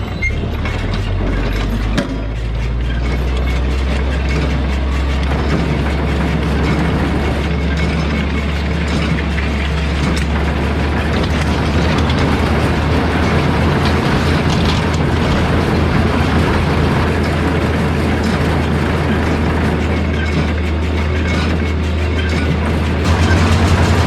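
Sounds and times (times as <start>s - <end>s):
baler mechanical clatter: 0.0s - 24.0s
tractor engine drone: 0.0s - 24.0s.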